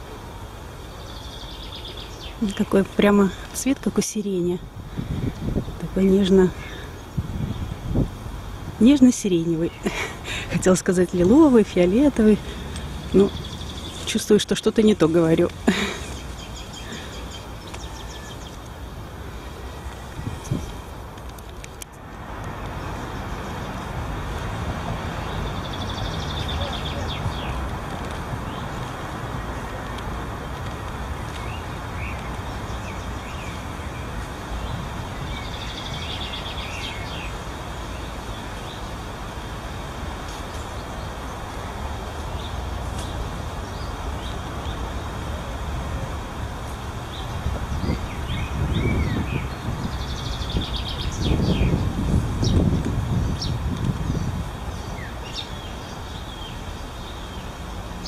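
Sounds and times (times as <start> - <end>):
city traffic hum: 0.0 - 58.0.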